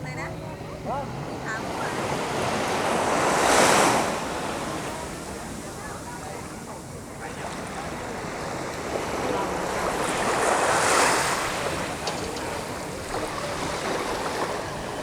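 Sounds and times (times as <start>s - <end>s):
wind buffeting microphone: 0.0s - 15.0s
surf washing onto beach: 0.8s - 15.0s.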